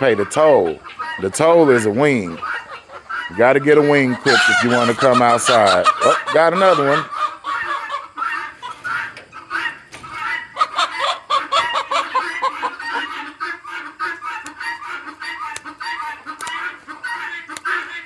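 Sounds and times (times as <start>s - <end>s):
chickens squawking and clucking: 0.0s - 18.0s.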